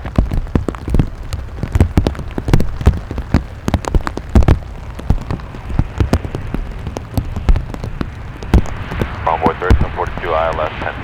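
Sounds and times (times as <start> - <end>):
rain falling: 0.0 - 11.0
raindrops ticking on microphone: 0.0 - 11.0.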